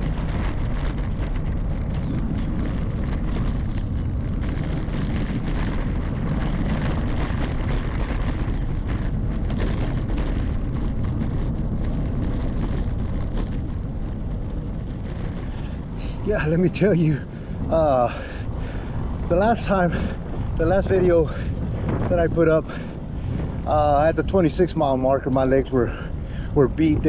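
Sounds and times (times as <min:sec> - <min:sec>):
bicycle road noise on asphalt: 0:00.0 - 0:27.0
wind rush: 0:00.0 - 0:27.0.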